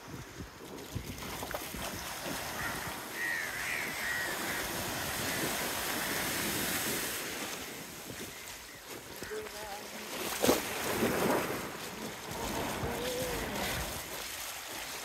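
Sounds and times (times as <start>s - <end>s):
surf washing: 0.0s - 15.0s
wind: 0.0s - 15.0s.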